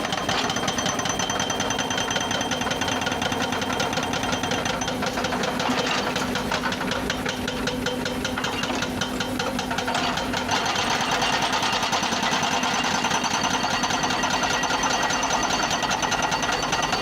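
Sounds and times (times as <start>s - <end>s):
excavator engine under load: 0.0s - 17.0s.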